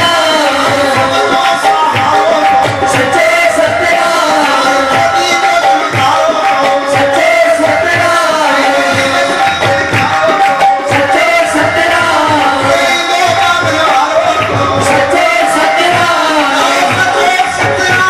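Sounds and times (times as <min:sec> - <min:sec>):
hand drum beating: 0:00.0 - 0:18.0
men singing a devotional chant: 0:00.0 - 0:18.0.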